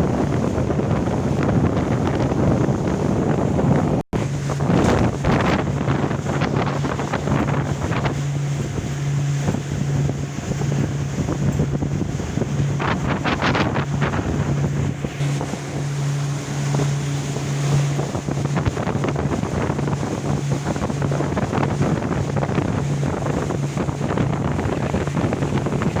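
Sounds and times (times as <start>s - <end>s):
boat engine hum: 0.0s - 26.0s
water washing: 0.0s - 26.0s
wind buffeting microphone: 0.0s - 26.0s.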